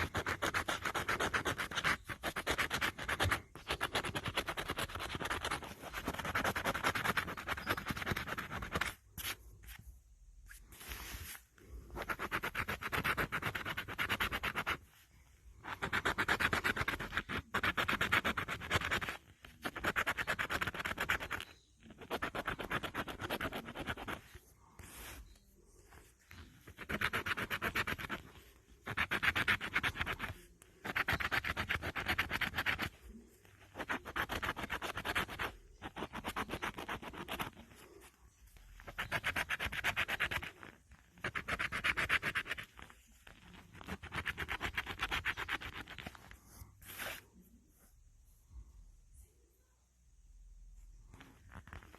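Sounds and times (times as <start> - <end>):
scratch-off ticket being scratched: 0.0 - 9.5, 11.9 - 14.9, 15.6 - 25.2, 26.4 - 38.0, 38.7 - 47.3.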